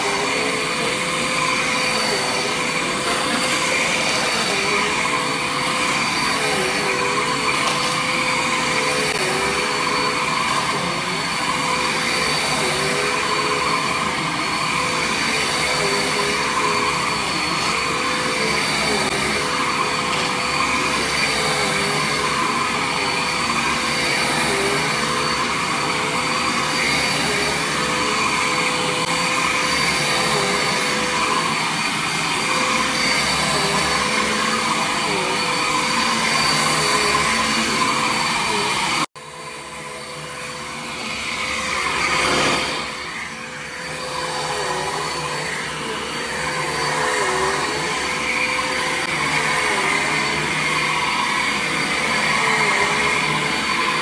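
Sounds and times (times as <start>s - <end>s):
vacuum cleaner on carpet: 0.0s - 54.0s.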